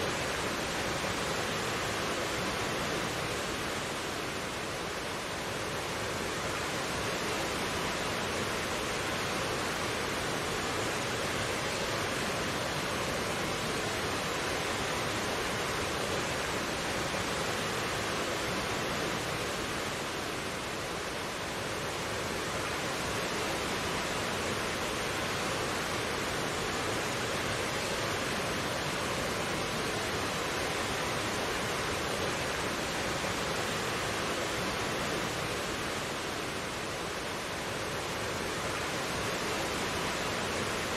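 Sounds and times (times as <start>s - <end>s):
mountain stream flowing: 0.0s - 40.9s.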